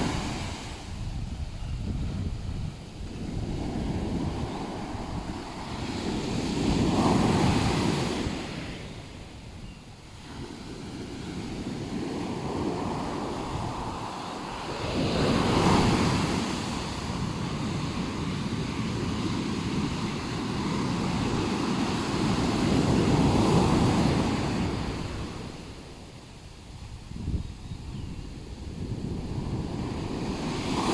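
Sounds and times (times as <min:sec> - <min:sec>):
ocean waves crashing on beach: 0:00.0 - 0:26.6, 0:28.4 - 0:30.9.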